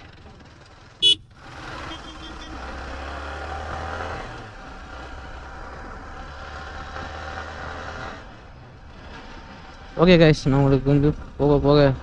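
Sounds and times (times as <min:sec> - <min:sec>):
low engine hum: 0:00.0 - 0:12.0
road noise rushing: 0:00.0 - 0:12.0.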